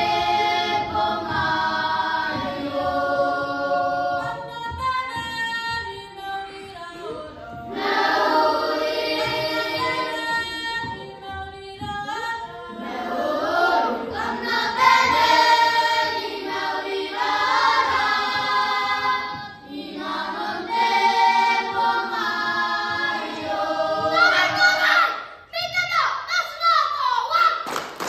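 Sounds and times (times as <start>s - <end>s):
children singing together: 0.0s - 25.4s.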